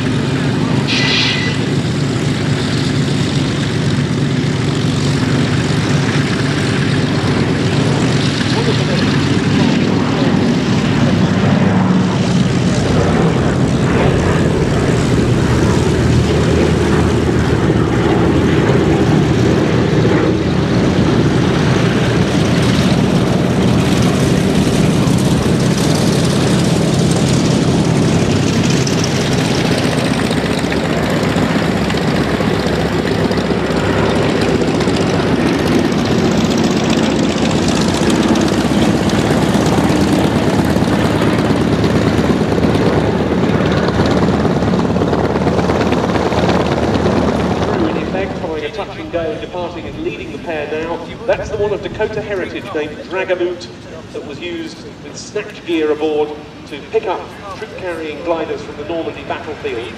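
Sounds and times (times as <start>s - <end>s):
propeller plane engines droning: 0.0s - 59.9s.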